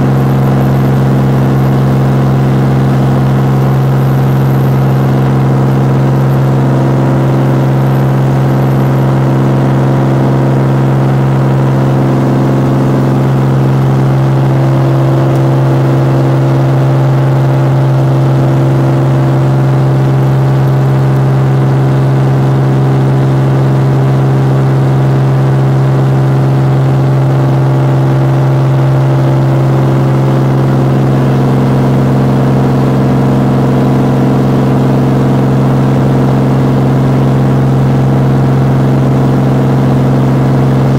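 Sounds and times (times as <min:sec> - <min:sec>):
propeller aircraft engine drone: 0:00.0 - 0:40.9.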